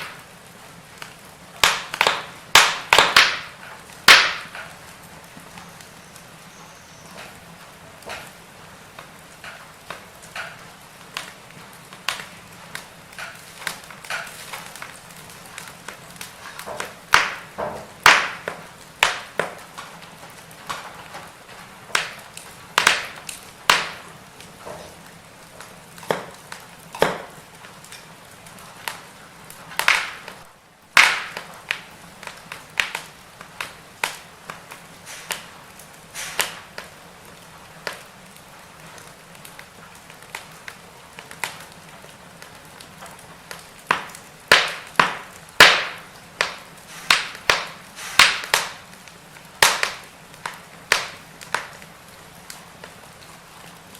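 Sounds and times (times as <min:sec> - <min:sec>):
firewood crackling: 0:00.0 - 0:53.9
soft steady hiss: 0:00.0 - 0:53.9.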